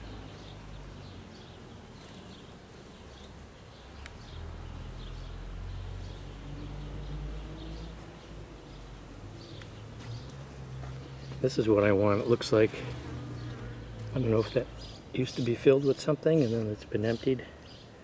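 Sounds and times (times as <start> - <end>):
bees buzzing: 0.0 - 15.1.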